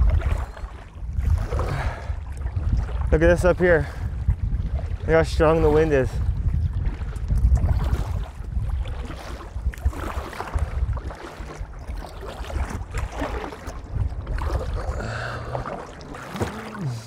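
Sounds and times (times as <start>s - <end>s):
wind on microphone: 0.0s - 16.2s
water lapping against kayak hull: 0.0s - 17.0s.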